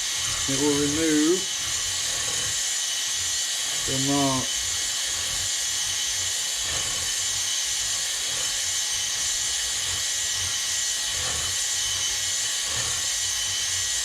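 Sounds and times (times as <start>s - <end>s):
drill honing a cylinder bore: 0.0s - 14.0s.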